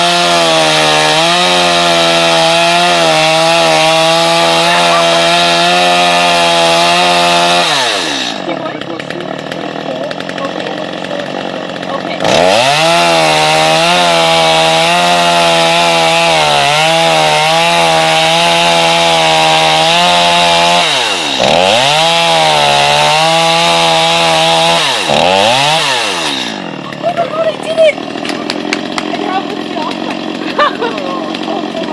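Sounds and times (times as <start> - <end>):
chainsaw engine revving: 0.0 - 31.9.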